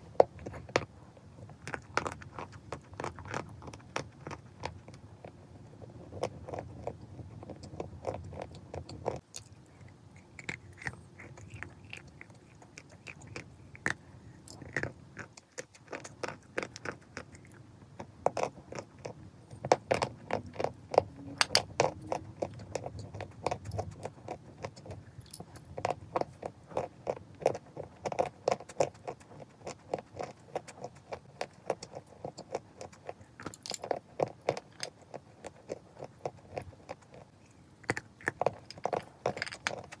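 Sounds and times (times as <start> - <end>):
person chewing chalk crunching: 0.0 - 40.0.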